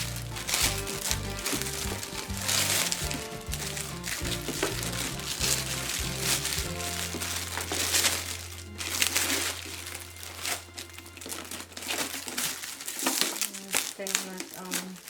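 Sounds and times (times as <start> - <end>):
background music: 0.0 - 13.5
packaging crinkling and rustling: 0.0 - 15.0.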